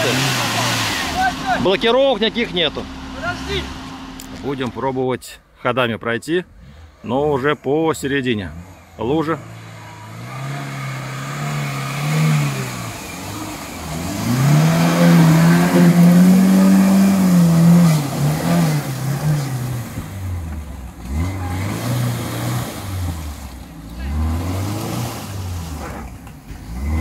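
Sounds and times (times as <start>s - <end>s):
engine revving hard: 0.0s - 4.7s, 8.3s - 20.4s, 21.0s - 27.0s.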